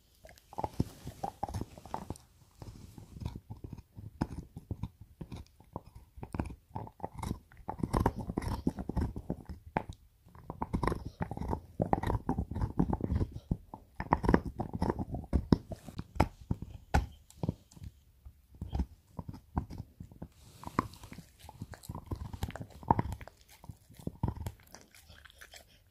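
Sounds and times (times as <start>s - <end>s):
dog gnawing antler: 0.1s - 17.9s, 18.5s - 25.9s.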